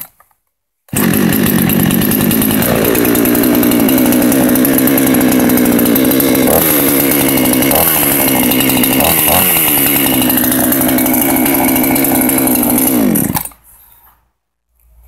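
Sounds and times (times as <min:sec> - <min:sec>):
chainsaw engine running: 0:00.9 - 0:13.6.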